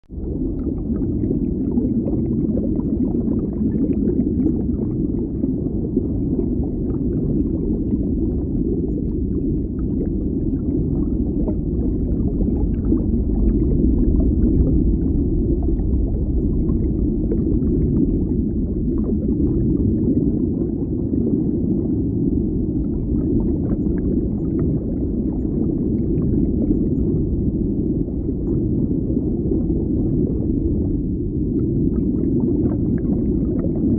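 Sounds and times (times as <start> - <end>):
underwater rumbling wash: 0.0 - 33.9.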